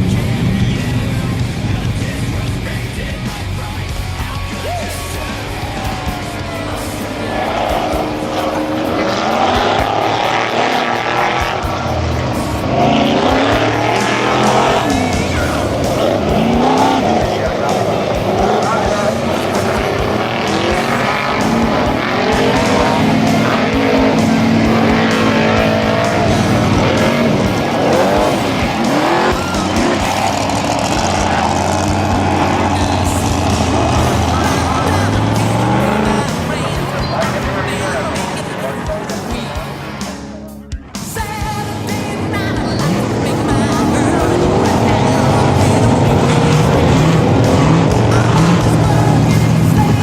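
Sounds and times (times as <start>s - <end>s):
truck engine revving hard: 0.0s - 50.0s.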